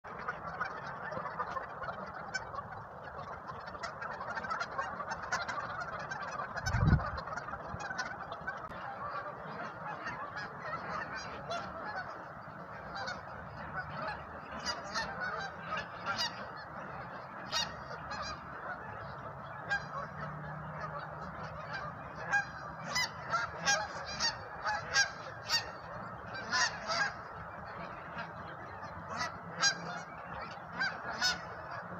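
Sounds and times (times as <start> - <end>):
geese honking: 0.1 - 31.9.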